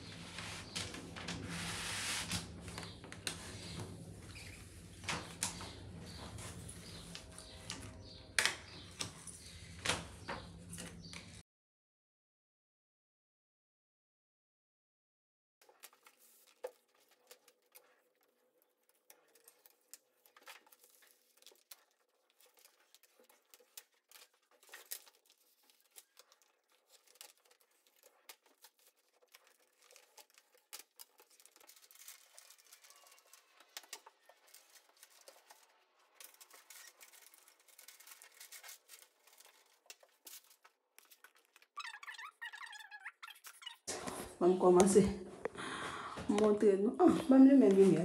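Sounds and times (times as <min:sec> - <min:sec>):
vinyl film crinkling and scraping: 0:00.0 - 0:11.4, 0:15.6 - 0:44.4.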